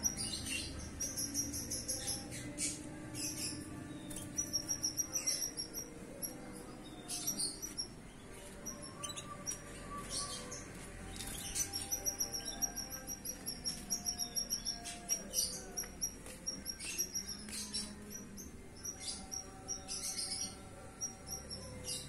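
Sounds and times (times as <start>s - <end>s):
canary trilling and chirping: 0.0s - 22.0s.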